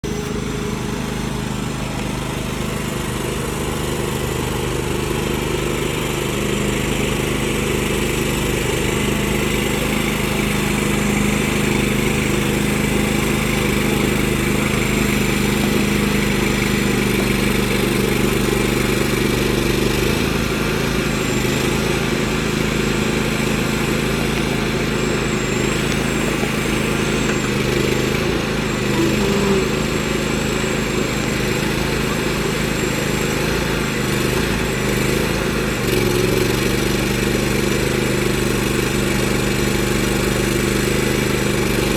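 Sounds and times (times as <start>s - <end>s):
small engine running: 0.0s - 41.9s.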